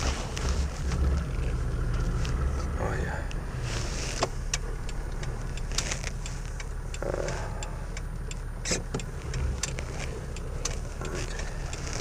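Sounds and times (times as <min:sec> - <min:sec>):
engine running at low speed: 0:00.0 - 0:12.0
turn signal ticking: 0:00.0 - 0:12.0.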